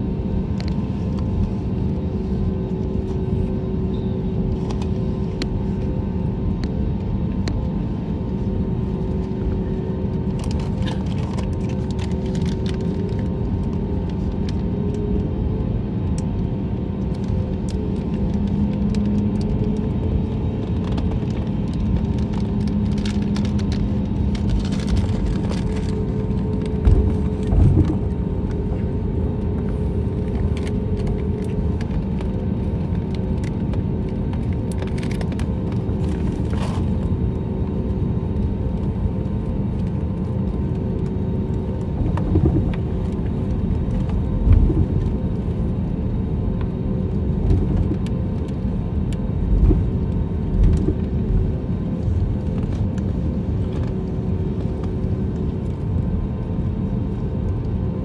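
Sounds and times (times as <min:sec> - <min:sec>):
low engine rumble in cabin: 0:00.0 - 0:58.0
steady hum tones: 0:00.0 - 0:58.0.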